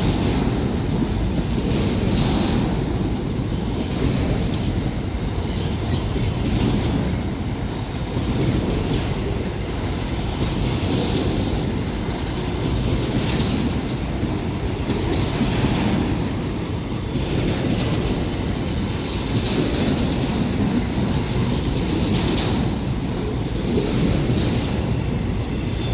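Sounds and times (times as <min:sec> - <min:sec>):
train wheels clattering on rails: 0:00.0 - 0:25.9.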